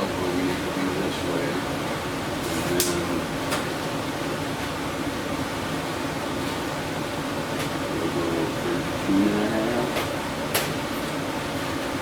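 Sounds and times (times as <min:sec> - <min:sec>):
fan-like background noise: 0:00.0 - 0:12.0.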